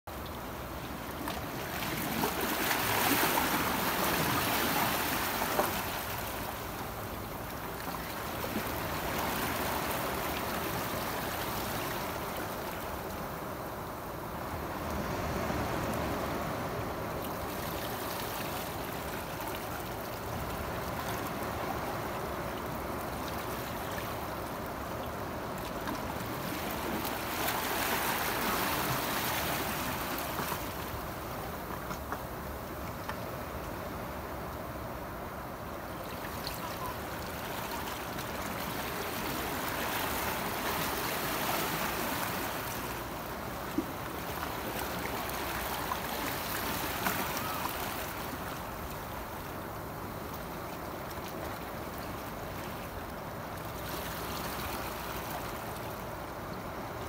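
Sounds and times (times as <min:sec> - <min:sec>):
sea waves washing and lapping: 0:00.1 - 0:57.0.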